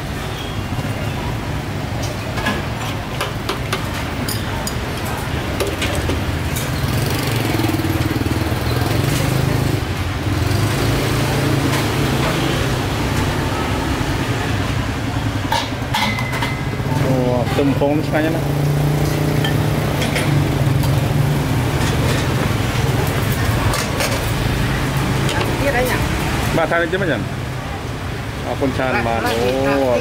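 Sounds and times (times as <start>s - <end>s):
vehicle engines humming: 0.0s - 30.0s.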